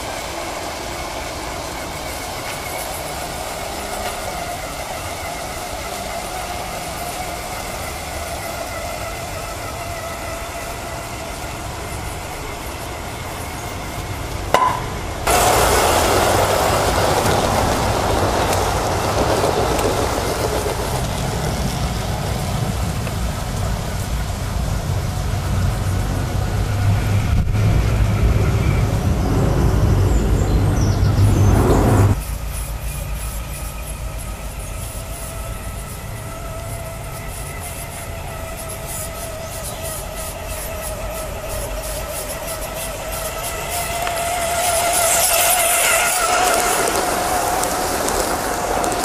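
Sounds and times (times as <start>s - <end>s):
electric motor hum with whine: 0.0s - 49.0s
model train wheels rumbling: 0.0s - 49.0s.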